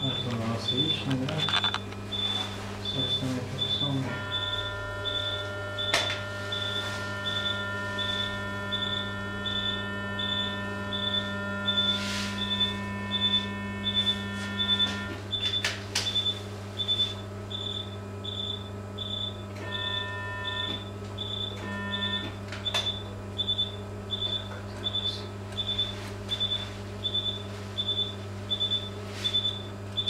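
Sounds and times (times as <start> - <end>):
electrical hum of equipment: 0.0 - 30.0
multi-tone electronic hum: 0.0 - 30.0
patient monitor beeping: 0.0 - 30.0.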